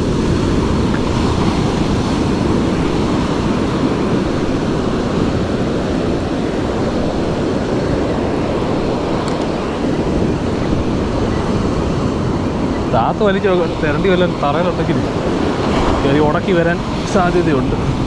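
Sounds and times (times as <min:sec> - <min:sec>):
ocean surf breaking: 0:00.0 - 0:18.0
wind on microphone: 0:00.0 - 0:18.0.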